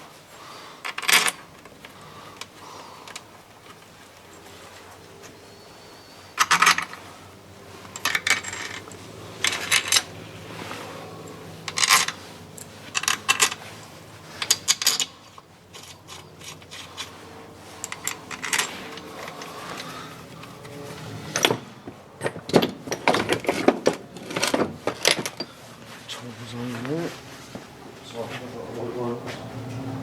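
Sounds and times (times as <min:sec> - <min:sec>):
hand tools clinking on metal: 0:00.6 - 0:27.2.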